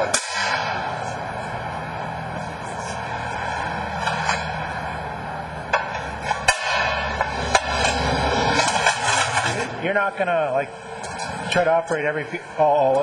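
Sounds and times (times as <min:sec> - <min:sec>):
fire engine idling: 0:00.0 - 0:13.0.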